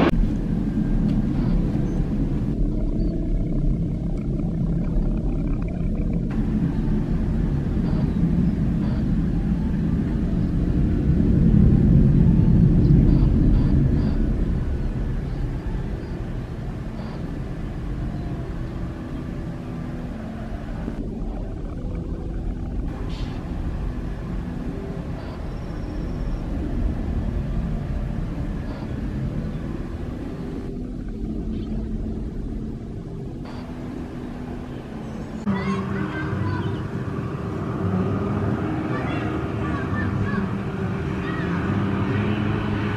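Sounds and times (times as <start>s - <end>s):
jet airliner engines rumbling: 0.0s - 42.9s.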